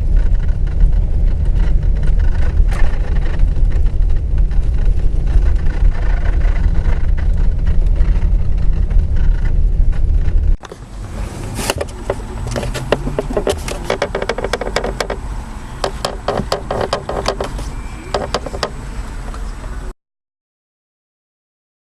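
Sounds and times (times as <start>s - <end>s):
car body creaks and squeaks: 0.0s - 19.9s
car driving road rumble: 0.0s - 19.9s.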